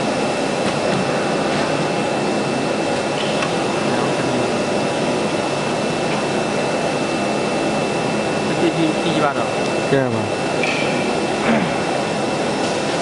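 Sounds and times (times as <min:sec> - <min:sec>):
cnc router running: 0:00.0 - 0:13.0.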